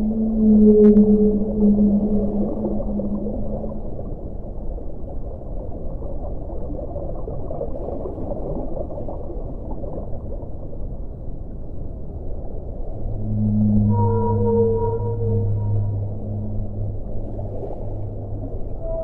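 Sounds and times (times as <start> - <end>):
underwater churning water: 0.0 - 19.0.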